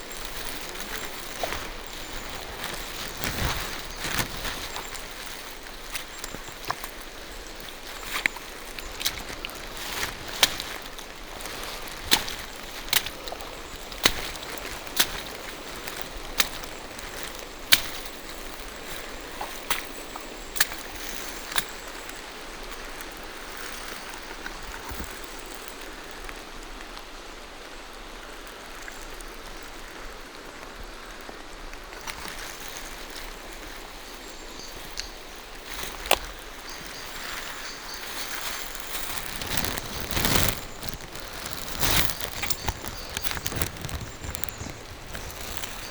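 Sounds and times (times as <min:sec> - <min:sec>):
rain falling through trees: 0:00.0 - 0:45.9.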